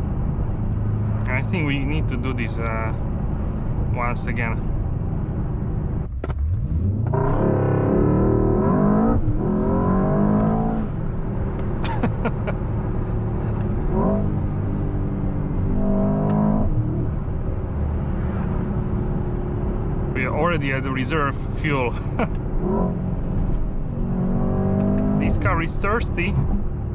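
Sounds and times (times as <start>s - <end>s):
car engine accelerating hard: 0.0s - 26.9s.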